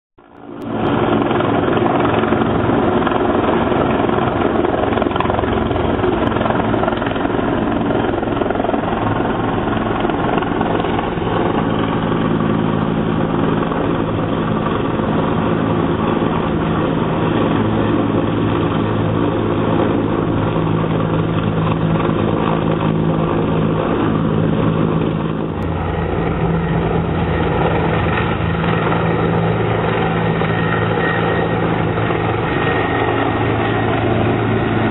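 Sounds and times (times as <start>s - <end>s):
helicopter rotor and engine: 0.2s - 34.9s.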